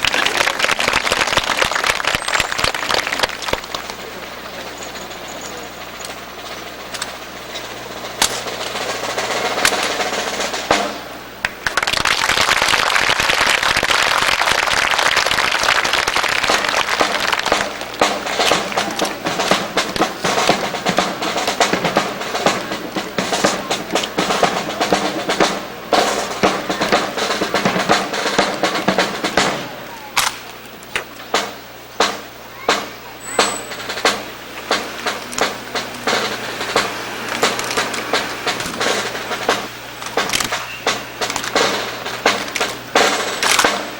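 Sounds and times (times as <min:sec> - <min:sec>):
snare drum roll: 0:00.0 - 0:43.9.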